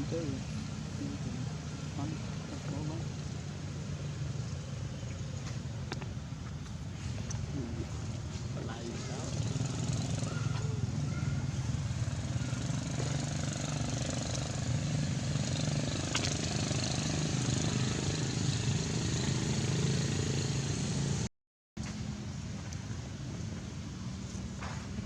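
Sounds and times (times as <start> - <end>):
low mechanical drone: 0.0 - 21.3.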